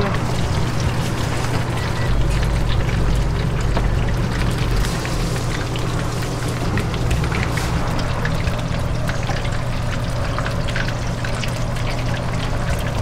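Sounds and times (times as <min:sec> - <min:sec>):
dumplings sizzling in oil: 0:00.0 - 0:13.0
low hum: 0:00.0 - 0:13.0.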